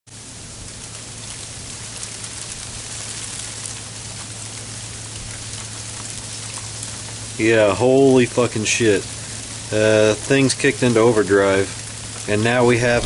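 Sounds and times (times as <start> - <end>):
rain hissing: 0.1 - 13.0
ice pellets ticking on surfaces: 0.7 - 13.0.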